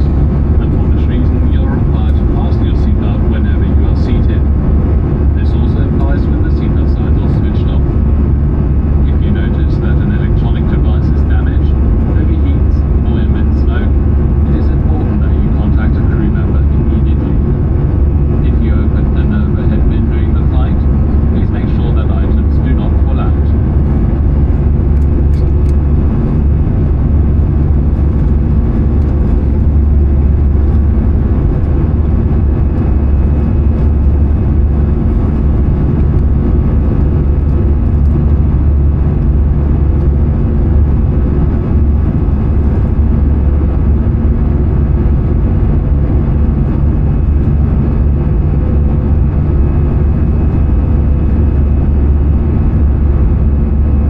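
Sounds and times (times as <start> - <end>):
aircraft engine rumble: 0.0 - 54.0
faint steady hum: 0.0 - 54.0.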